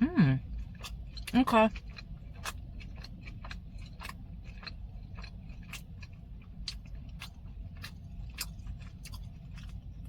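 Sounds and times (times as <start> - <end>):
chewing with crisp crunches: 0.0 - 10.0.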